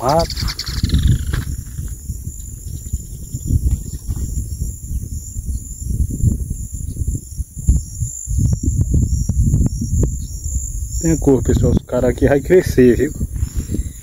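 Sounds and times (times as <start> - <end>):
insects chorus: 0.0 - 14.0
wind buffeting microphone: 0.0 - 14.0.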